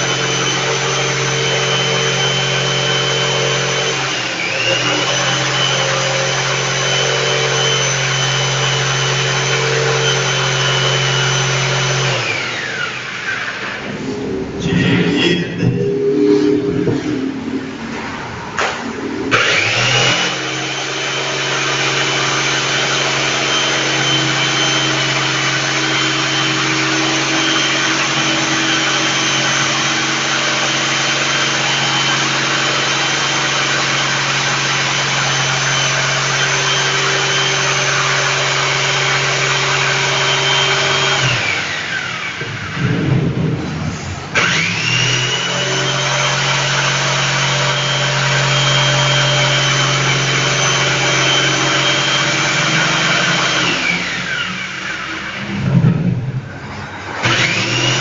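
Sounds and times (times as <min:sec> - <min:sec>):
electric jigsaw cutting wood: 0:00.0 - 0:13.9, 0:19.3 - 0:42.7, 0:44.3 - 0:55.5, 0:57.2 - 0:58.0.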